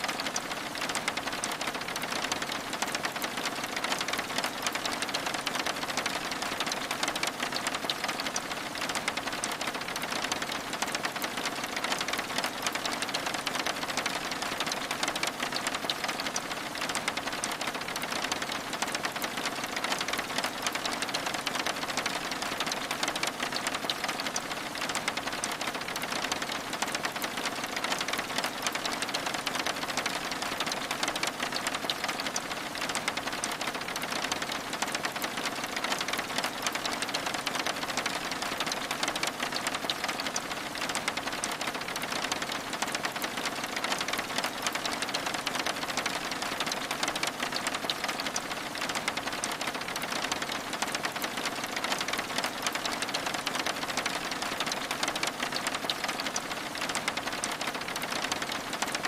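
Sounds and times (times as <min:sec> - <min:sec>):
rain pattering on window glass: 0:00.0 - 0:59.0.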